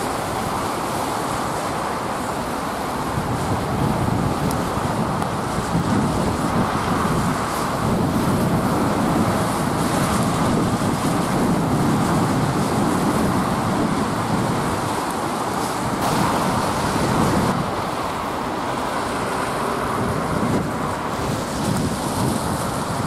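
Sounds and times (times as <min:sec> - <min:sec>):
traffic on a wet road: 0:00.0 - 0:23.0.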